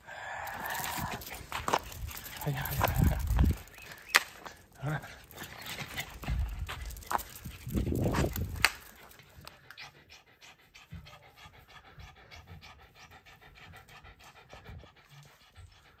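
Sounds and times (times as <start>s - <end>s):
dog panting: 0.1s - 16.0s.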